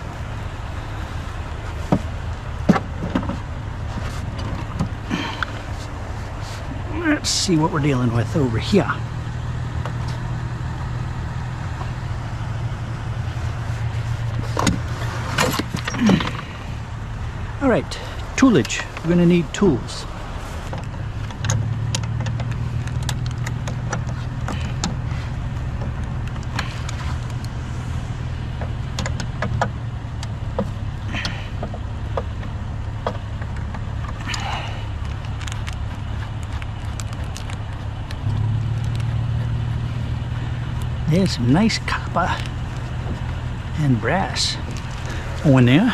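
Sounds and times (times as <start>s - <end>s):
vehicle engine idling: 0.0s - 45.9s.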